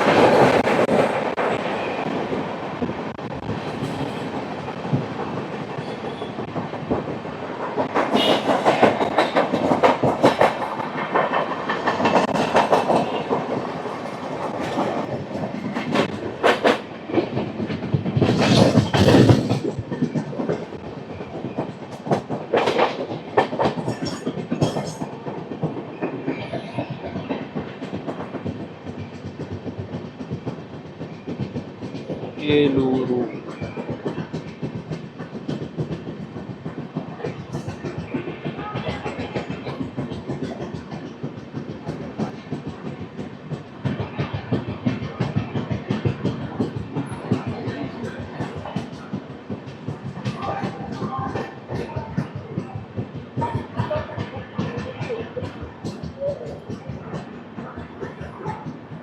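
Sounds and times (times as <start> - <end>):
express train running on track: 0.0 - 59.0
wheels clacking over rail joints: 0.0 - 59.0.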